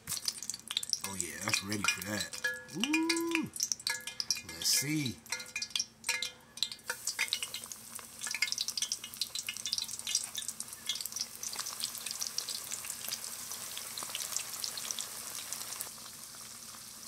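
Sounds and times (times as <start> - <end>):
chicken deep-frying in hot oil: 0.0 - 17.0.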